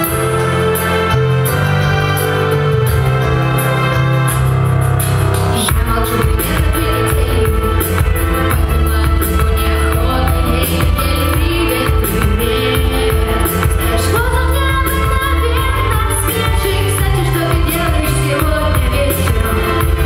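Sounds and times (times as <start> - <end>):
pop backing track: 0.0 - 20.0.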